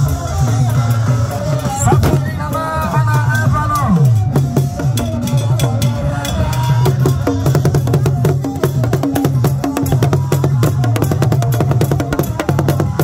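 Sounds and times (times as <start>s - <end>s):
barrel drums beaten fast: 0.0s - 13.0s.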